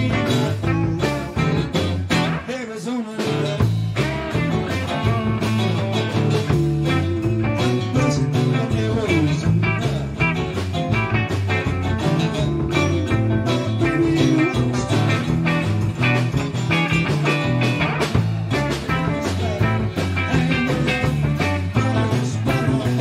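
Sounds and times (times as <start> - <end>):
bent guitar notes: 0.0 - 2.6, 3.2 - 23.0
blues-rock band playing: 0.0 - 23.0.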